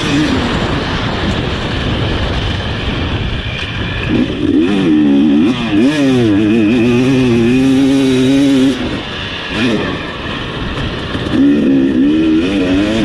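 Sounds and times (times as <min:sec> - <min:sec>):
motorcycle engine revving: 0:00.0 - 0:13.0
rushing noise: 0:00.0 - 0:13.0.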